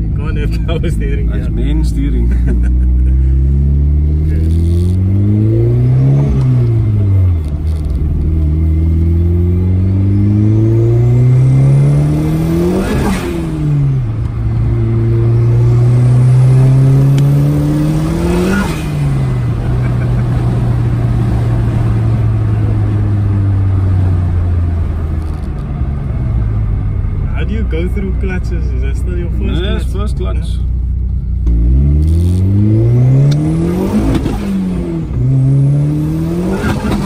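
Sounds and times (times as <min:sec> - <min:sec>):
car engine revving through gears: 0:00.7 - 0:25.6, 0:31.4 - 0:37.0.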